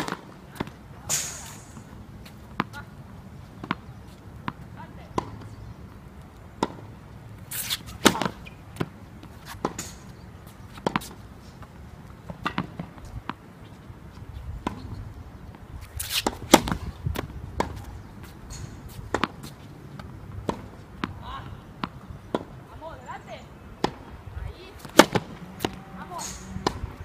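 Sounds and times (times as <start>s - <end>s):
tennis balls struck by rackets: 0.0s - 5.6s, 6.4s - 13.6s, 15.9s - 23.1s, 23.7s - 27.0s
tennis balls bouncing on court: 0.0s - 27.0s.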